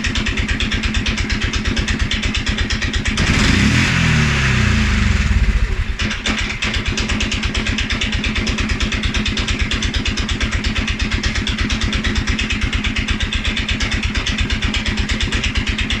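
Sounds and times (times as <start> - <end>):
engine revving down to rough idle: 0.0 - 16.0.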